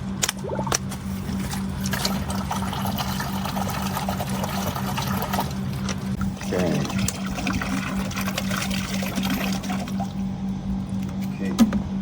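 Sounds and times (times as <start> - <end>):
constant low hum: 0.0 - 12.0
liquid pouring into container: 0.4 - 10.2.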